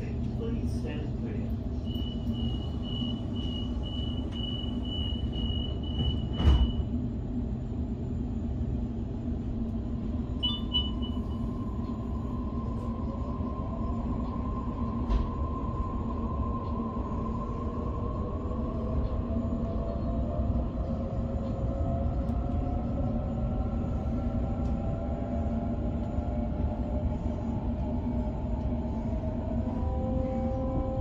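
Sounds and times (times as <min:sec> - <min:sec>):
train carriage rumble and hum: 0:00.0 - 0:31.0.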